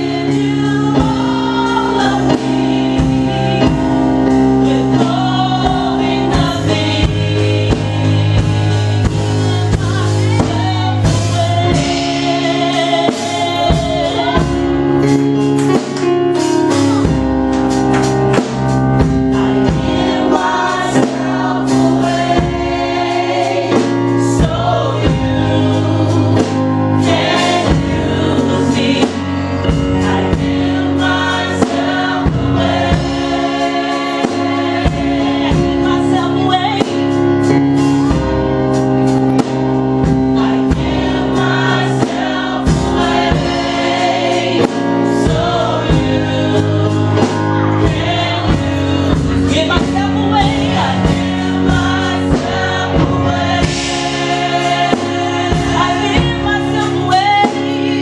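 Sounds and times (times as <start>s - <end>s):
keyboard accompaniment: 0.0s - 58.0s
mixed group singing gospel: 0.0s - 58.0s.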